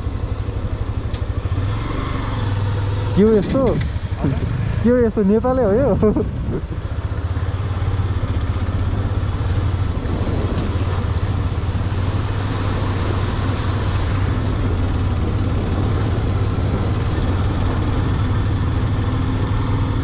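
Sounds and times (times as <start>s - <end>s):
engine hum: 0.0s - 20.0s
road and wind hiss: 0.0s - 20.0s.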